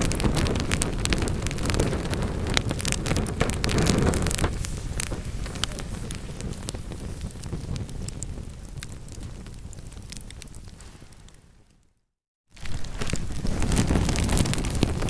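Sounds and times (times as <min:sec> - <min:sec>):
wood fire crackling and popping: 0:00.0 - 0:11.8, 0:12.5 - 0:15.0
low rumble of burning: 0:00.0 - 0:11.9, 0:12.6 - 0:15.0.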